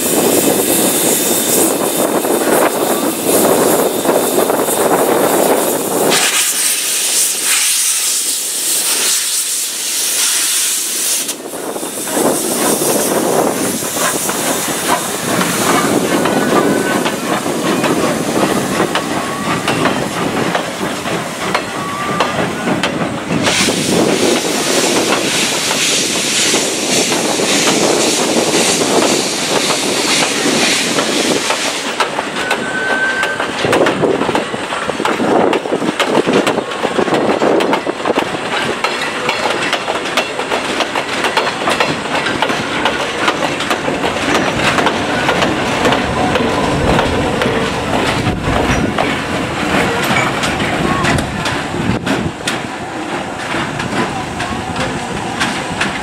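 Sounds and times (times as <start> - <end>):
steam hissing: 0.0 - 56.0
train wheels clicking over rail joints: 0.0 - 56.0.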